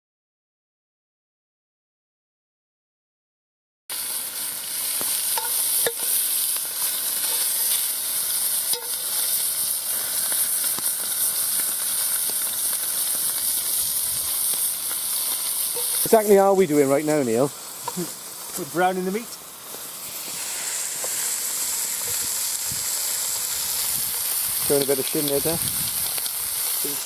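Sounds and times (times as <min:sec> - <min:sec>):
meat sizzling in a pan: 0:03.9 - 0:27.0
small crackles and pops: 0:03.9 - 0:27.0.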